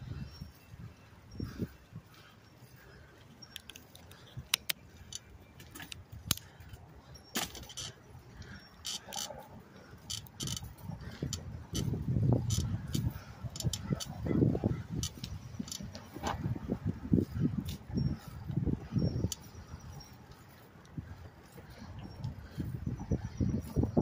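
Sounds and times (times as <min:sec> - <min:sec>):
bicycle rattling and clicking: 0:00.0 - 0:24.0
low tyre rumble: 0:04.2 - 0:24.0.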